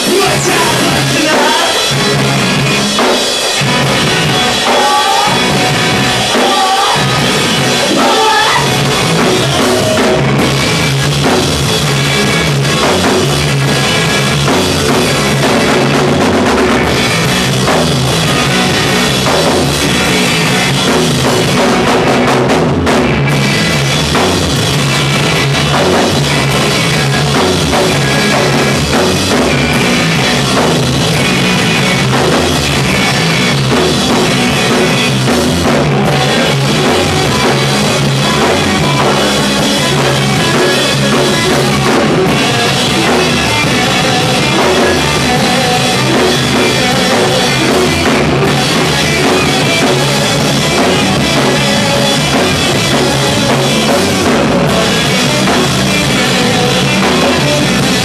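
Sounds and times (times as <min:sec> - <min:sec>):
rock band playing live: 0:00.0 - 0:58.0.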